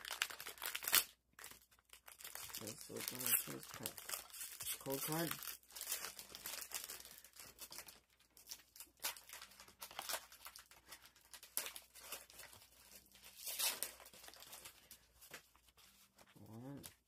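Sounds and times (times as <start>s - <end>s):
cards rustling: 0.0s - 17.0s
foil pack crinkling and tearing: 0.0s - 17.0s.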